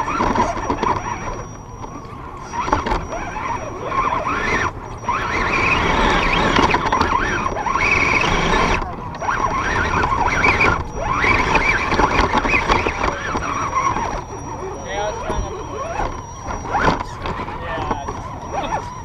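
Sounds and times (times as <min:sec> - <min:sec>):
electric motor and drivetrain whining: 0:00.0 - 0:19.0.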